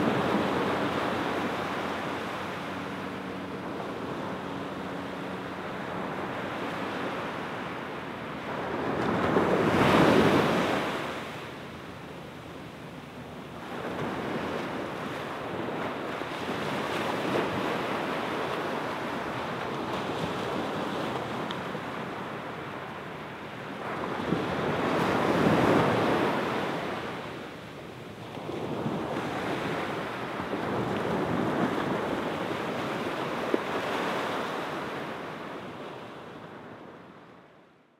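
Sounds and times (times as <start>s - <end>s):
small waves breaking on sand: 0.0s - 37.4s.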